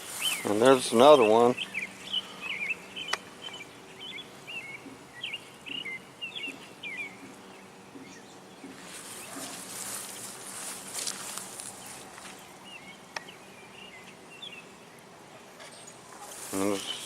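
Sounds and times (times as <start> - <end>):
soft rustling with ticks: 0.0 - 13.3, 15.5 - 17.0
birds chirping: 0.0 - 17.0.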